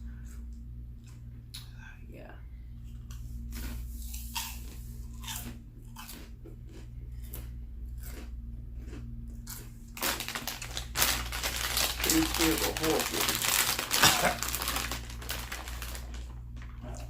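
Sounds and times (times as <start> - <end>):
crunchy chewing of pork rinds: 2.8 - 17.0.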